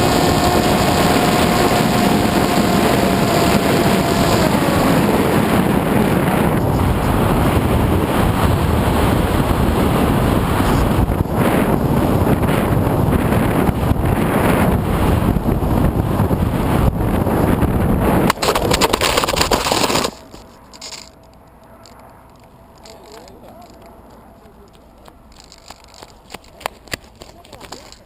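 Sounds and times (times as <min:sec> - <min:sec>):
wind roaring over microphone: 0:00.0 - 0:28.0.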